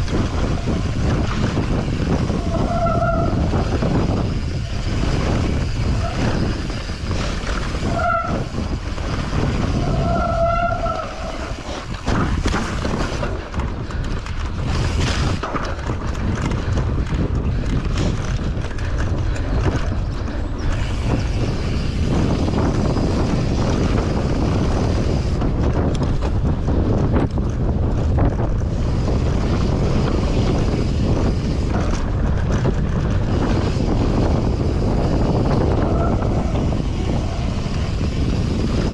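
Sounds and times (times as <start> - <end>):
bike rattling over rough ground: 0.0 - 38.9
wind on microphone: 0.0 - 38.9.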